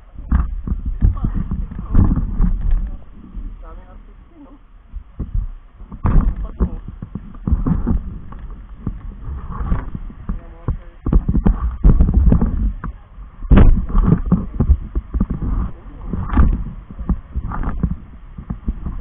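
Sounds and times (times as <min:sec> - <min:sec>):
microphone handling thumps: 0:00.0 - 0:19.0.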